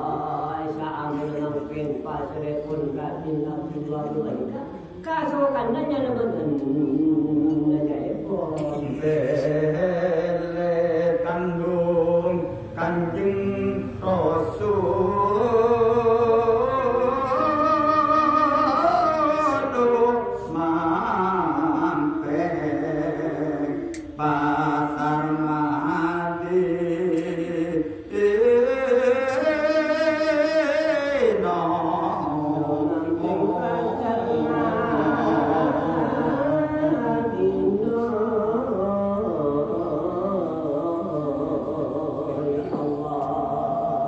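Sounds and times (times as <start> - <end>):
man chanting into a microphone: 0.0 - 5.1, 5.8 - 44.0.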